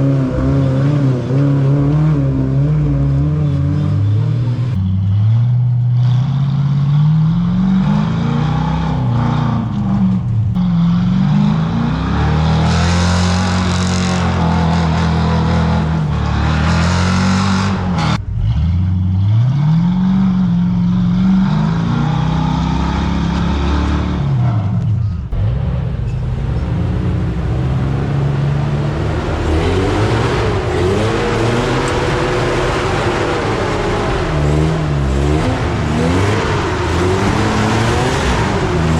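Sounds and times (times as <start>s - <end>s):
engine revving: 0.0s - 38.9s.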